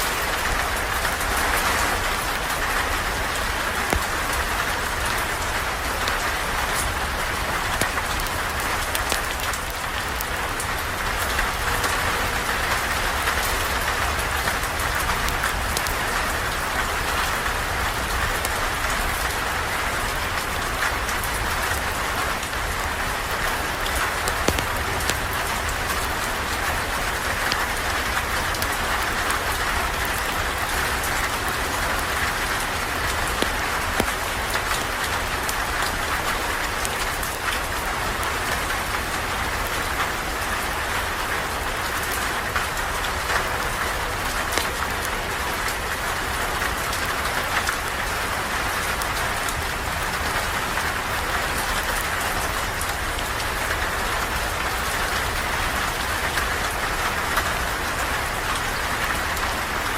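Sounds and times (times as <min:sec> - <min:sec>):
sharp rain taps: 0:00.0 - 0:59.9
steady rain falling: 0:00.0 - 0:59.9.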